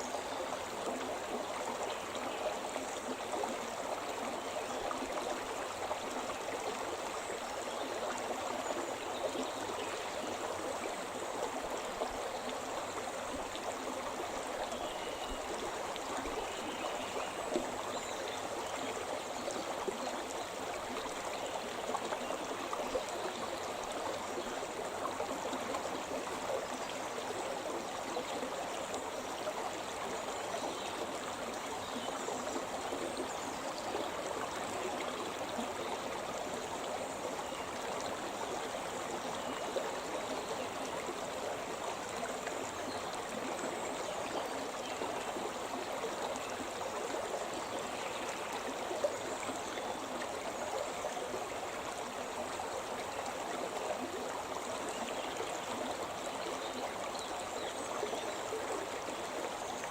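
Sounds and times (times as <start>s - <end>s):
stream rushing over stones: 0.0s - 59.9s.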